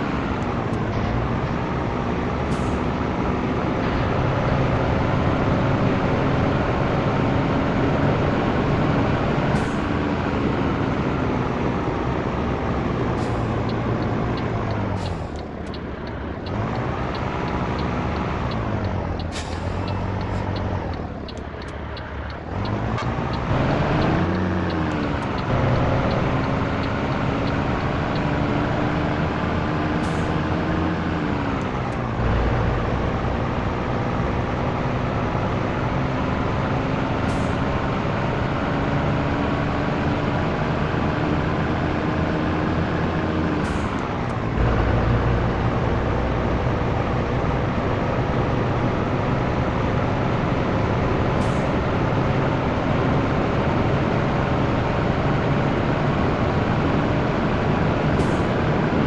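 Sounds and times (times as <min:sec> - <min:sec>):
truck diesel engine pulling: 0:00.0 - 0:59.0.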